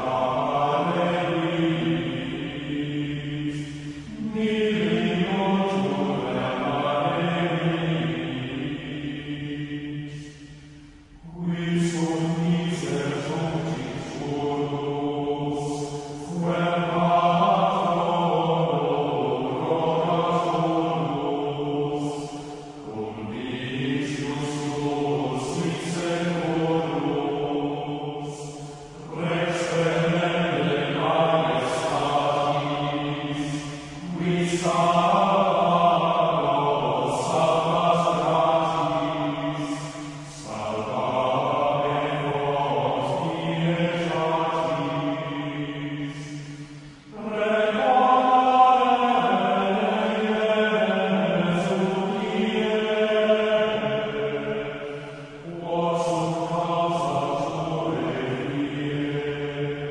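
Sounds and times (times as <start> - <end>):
slow chant-like singing voices: 0.0 - 59.9.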